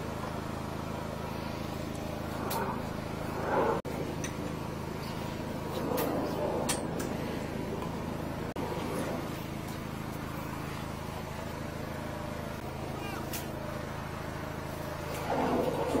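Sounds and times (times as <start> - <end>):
engine and pump running: 0.0 - 16.0.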